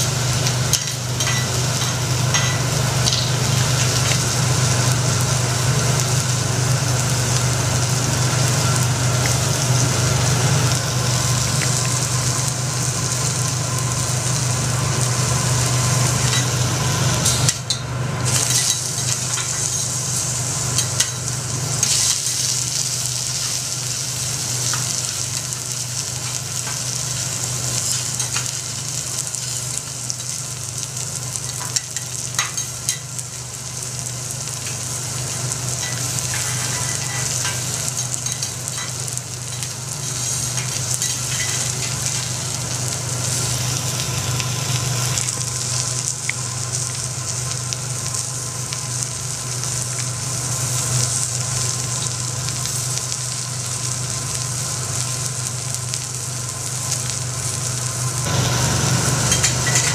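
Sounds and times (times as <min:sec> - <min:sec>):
seafood sizzling on a griddle: 0:00.0 - 0:59.9.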